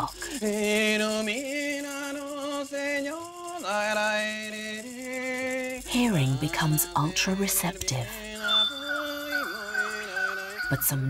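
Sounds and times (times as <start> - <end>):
person singing slow chant: 0.0 - 11.0.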